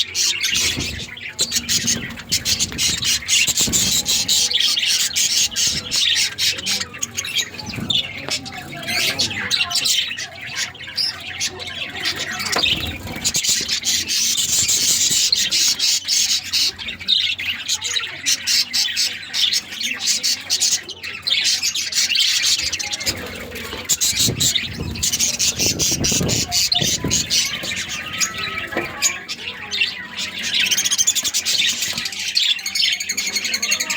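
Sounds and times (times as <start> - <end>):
budgerigars chirping and squawking: 0.0 - 33.9.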